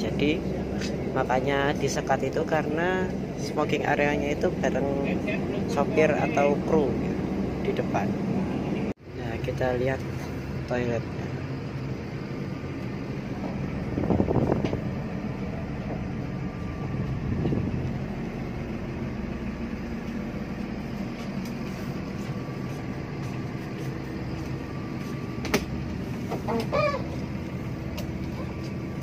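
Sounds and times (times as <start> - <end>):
coach engine hum: 0.0 - 29.0
road noise: 0.0 - 29.0.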